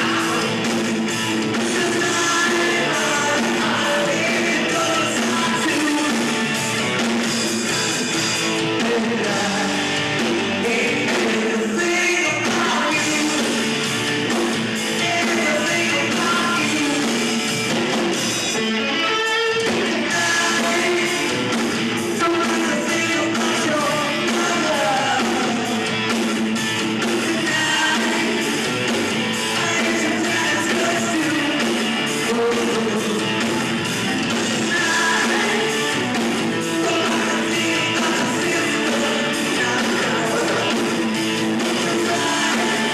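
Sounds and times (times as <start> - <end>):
person singing: 0.0 - 0.8, 1.5 - 6.4, 8.7 - 13.8, 14.9 - 17.4, 19.0 - 25.9, 27.0 - 42.9
electric guitar: 0.0 - 42.9
rock band playing live: 0.0 - 42.9.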